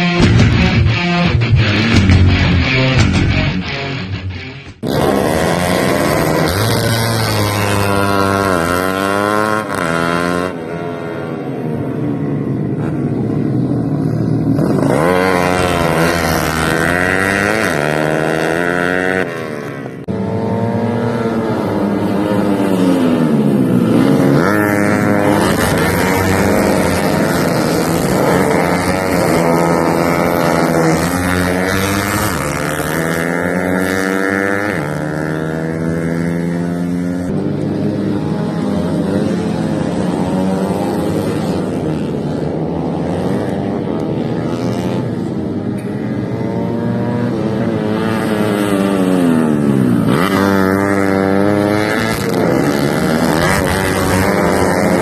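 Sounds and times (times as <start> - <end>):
motorcycle engines at full throttle: 0.0 - 55.0.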